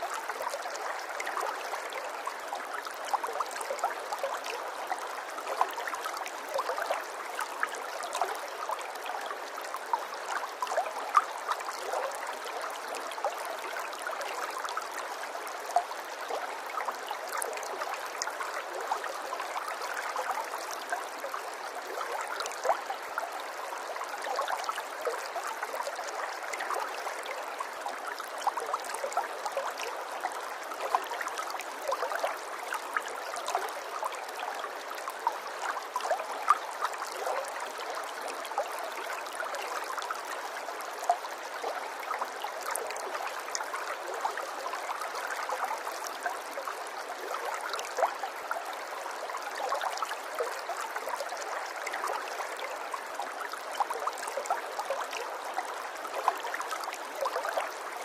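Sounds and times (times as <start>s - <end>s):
stream water flowing and splashing: 0.0s - 58.0s.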